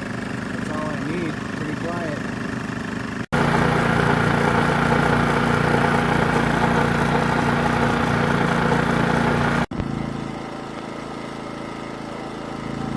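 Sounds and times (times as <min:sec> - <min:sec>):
generator engine running: 0:00.0 - 0:12.9.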